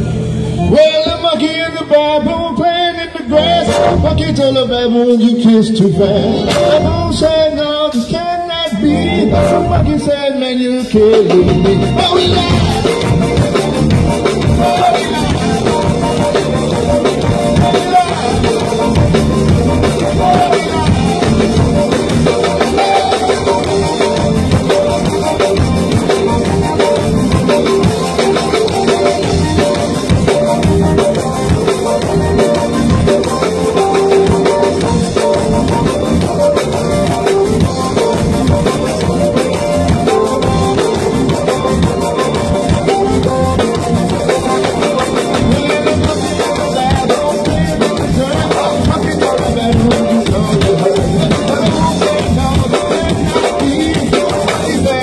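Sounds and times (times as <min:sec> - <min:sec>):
drum kit beat: 0:00.0 - 0:55.0
instrumental zydeco band music: 0:00.0 - 0:55.0.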